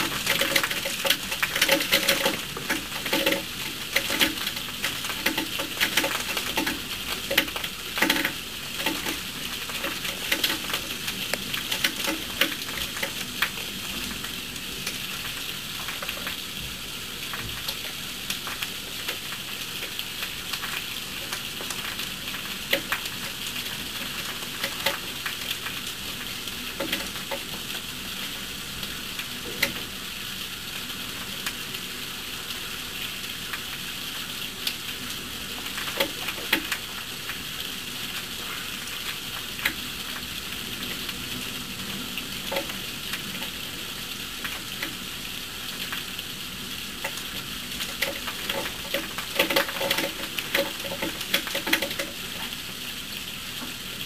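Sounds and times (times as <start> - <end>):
close drips and splashes: 0.0 - 54.0
heavy rain falling: 0.0 - 54.0.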